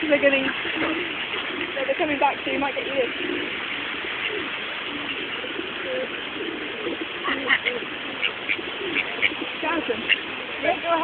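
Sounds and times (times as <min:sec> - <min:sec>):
pigeons cooing: 0:00.0 - 0:11.0
steady background hiss: 0:00.0 - 0:11.0.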